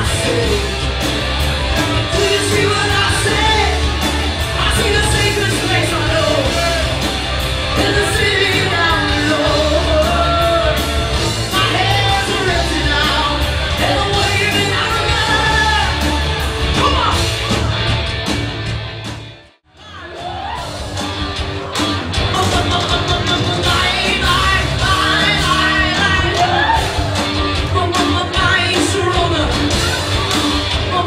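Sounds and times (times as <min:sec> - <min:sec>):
lead singer: 0:00.0 - 0:17.6, 0:19.8 - 0:31.0
drums: 0:00.0 - 0:31.0
electric guitar: 0:00.0 - 0:31.0
live rock band: 0:00.0 - 0:31.0.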